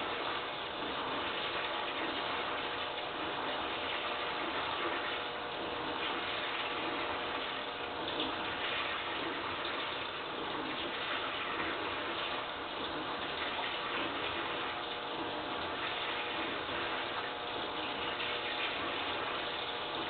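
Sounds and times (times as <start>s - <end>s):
faint motor hum: 0.0s - 20.0s
water rushing in washing machine: 0.0s - 20.0s.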